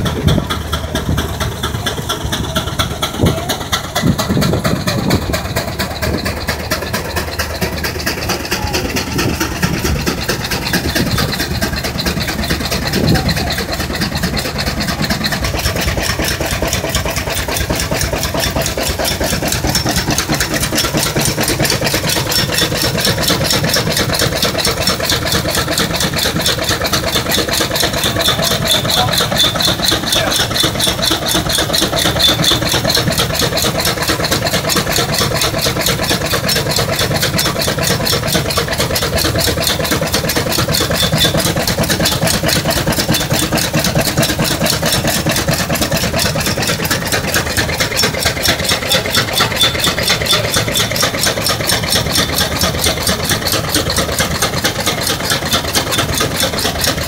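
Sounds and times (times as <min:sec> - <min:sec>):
steam traction engine running: 0:00.0 - 0:57.0.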